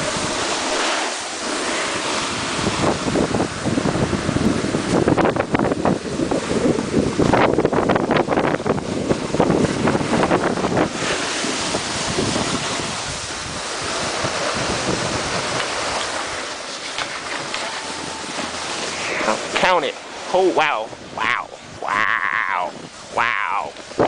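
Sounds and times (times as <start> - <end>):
snowboards sliding over snow: 0.0 - 20.6
wind buffeting microphone: 0.0 - 24.0.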